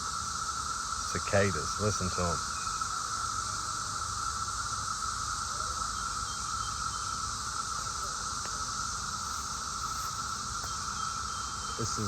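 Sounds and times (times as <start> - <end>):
cicadas singing: 0.0 - 12.0.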